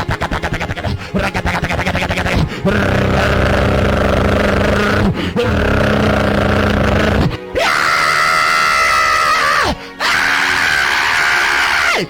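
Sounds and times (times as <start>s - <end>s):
music: 0.0s - 12.0s
wailing cries: 0.0s - 12.0s.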